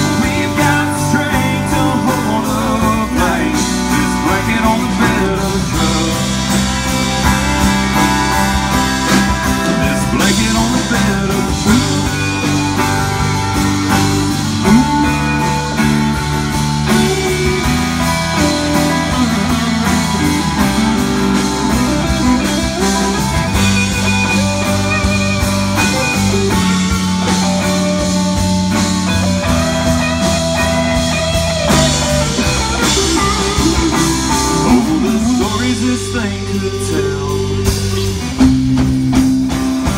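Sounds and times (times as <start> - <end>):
country-rock band playing: 0.0 - 39.9.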